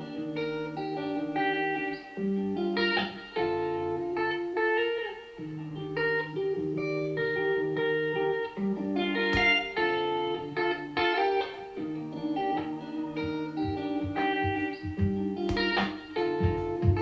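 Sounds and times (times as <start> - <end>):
guitar music over loudspeakers: 0.0 - 17.0.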